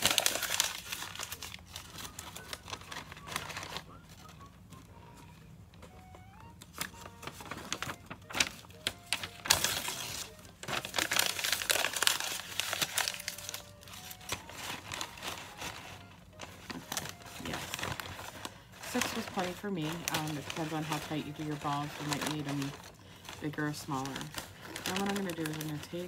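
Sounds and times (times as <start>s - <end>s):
paper crumpling: 0.0s - 26.0s.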